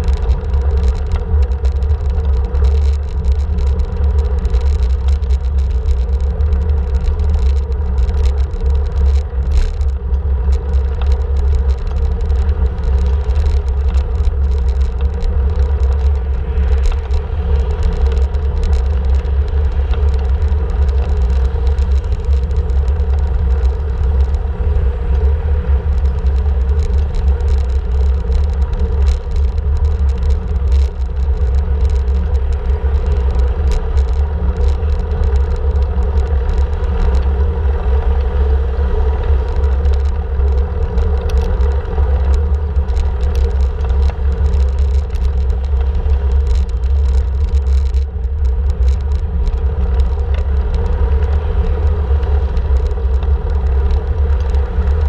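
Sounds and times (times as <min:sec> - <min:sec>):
bike clicks and rattles: 0:00.0 - 0:55.0
bike rolling rumble: 0:00.0 - 0:55.0.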